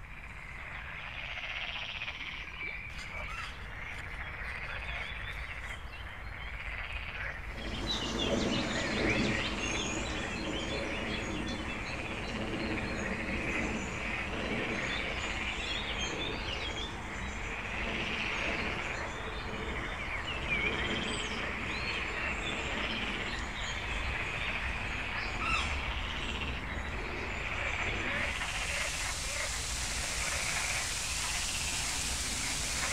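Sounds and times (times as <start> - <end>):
frogs croaking: 0.0 - 32.9
small birds chirping: 2.5 - 32.9.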